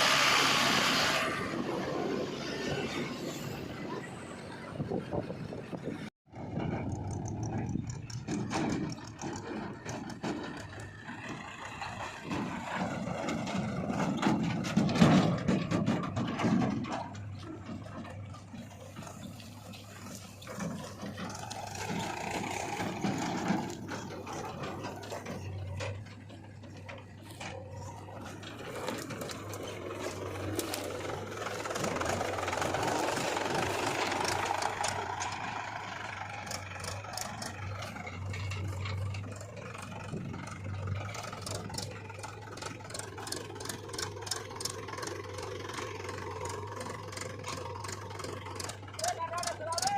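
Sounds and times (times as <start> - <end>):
diesel engine revving under load: 0.0 - 49.9
clatter: 4.8 - 49.9.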